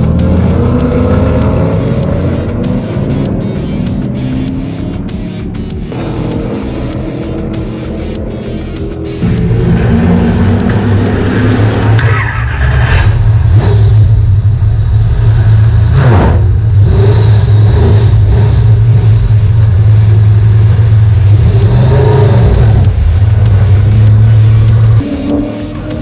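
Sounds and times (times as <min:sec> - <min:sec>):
race car engine drone: 0:00.0 - 0:26.0.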